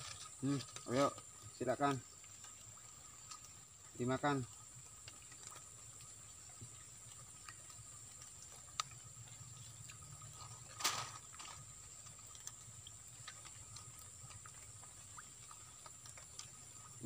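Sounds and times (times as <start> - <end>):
small ticks: 0.0 - 17.0.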